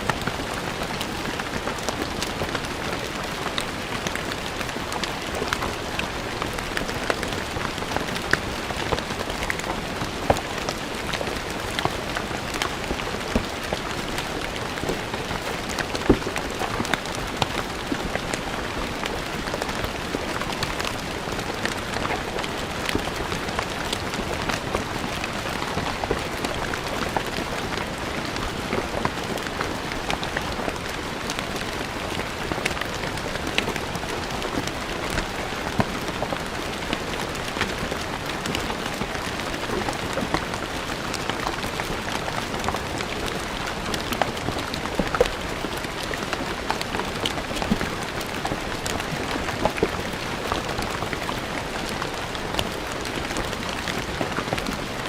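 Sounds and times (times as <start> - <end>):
rain on stone floor: 0.0 - 55.0.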